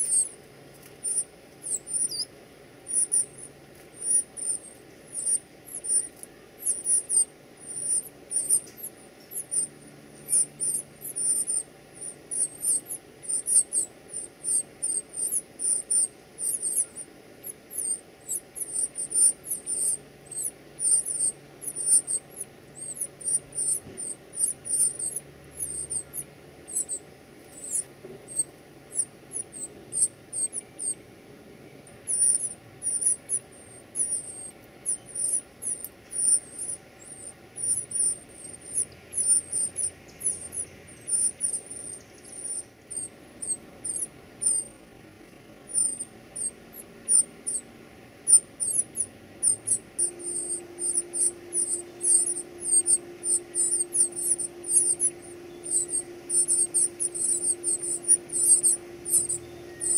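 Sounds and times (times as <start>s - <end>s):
nestlings begging calls: 0.0s - 31.0s, 31.8s - 59.9s.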